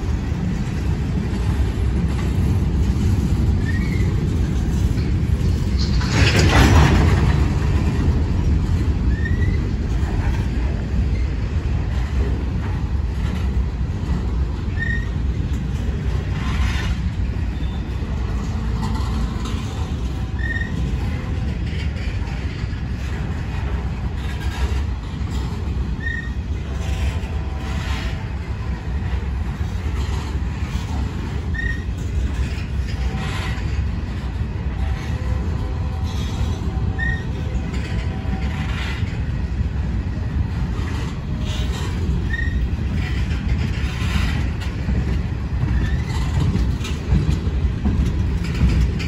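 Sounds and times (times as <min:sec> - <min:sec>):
train knocks: 0:00.0 - 0:49.0
train wheels rumbling on rail: 0:00.0 - 0:49.0.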